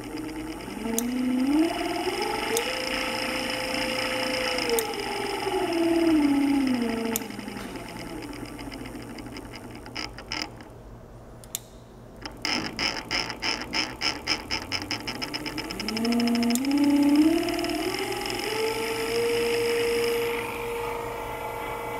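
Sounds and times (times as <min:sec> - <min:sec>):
servo motor whine: 0:00.0 - 0:10.7, 0:12.2 - 0:21.9
motor ticks: 0:00.0 - 0:10.8, 0:11.4 - 0:20.9.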